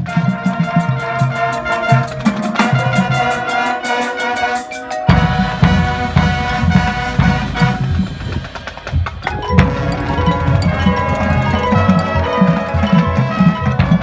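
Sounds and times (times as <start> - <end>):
mallet keyboards and percussion: 0.0 - 14.0
marching band playing: 0.0 - 14.0.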